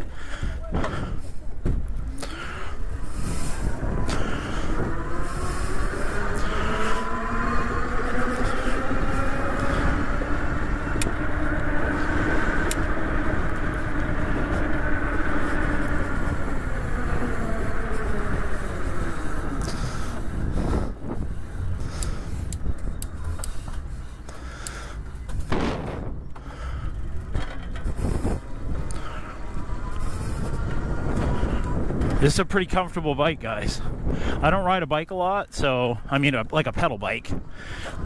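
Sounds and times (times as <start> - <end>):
rough riding noise: 0.0 - 38.0
wind rumble on microphone: 0.0 - 38.0
electric bike motor whining: 1.8 - 33.2.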